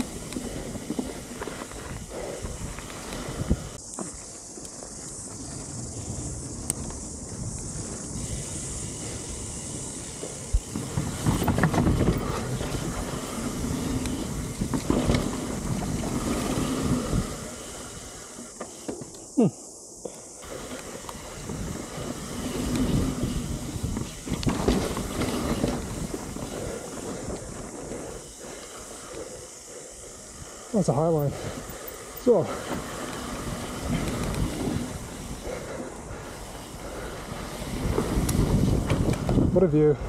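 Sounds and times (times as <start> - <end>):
wind on microphone: 0.0 - 3.9, 5.1 - 18.3, 20.4 - 40.0
bike tyres on dirt trail: 0.0 - 40.0.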